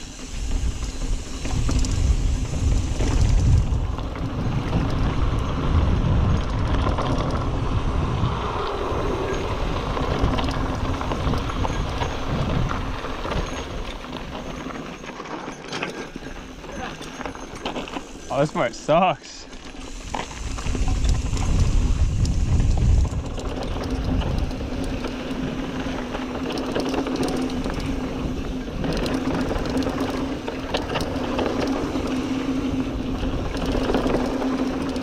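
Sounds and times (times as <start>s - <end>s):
wind buffeting microphone: 0.0s - 14.8s, 19.8s - 35.0s
bike clicks and rattles: 0.0s - 35.0s
bike tyres rushing on dirt: 0.0s - 35.0s.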